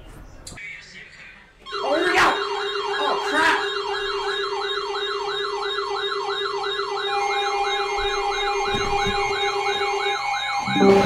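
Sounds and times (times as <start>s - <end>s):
electronic yelp siren: 1.7s - 11.0s.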